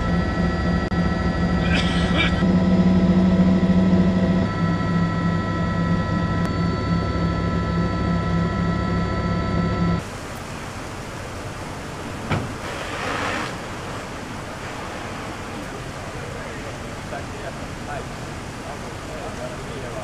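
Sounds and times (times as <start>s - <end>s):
fire engine running: 0.0s - 20.0s.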